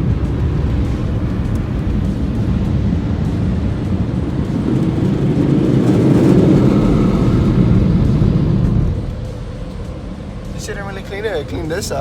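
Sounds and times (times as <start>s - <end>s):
air dryer blowers roaring: 0.0s - 12.0s.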